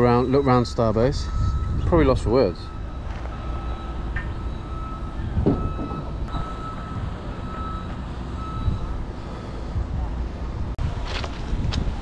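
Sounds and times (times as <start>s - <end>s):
reversing alarm beeping: 0.0s - 9.8s
low outdoor rumble: 0.0s - 12.0s.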